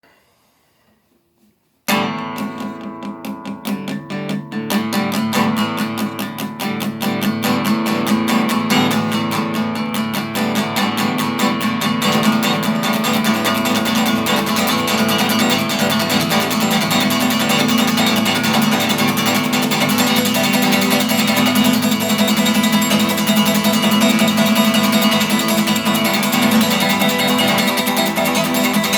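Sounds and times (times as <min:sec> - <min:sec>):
guitar strumming: 0:01.9 - 0:28.9.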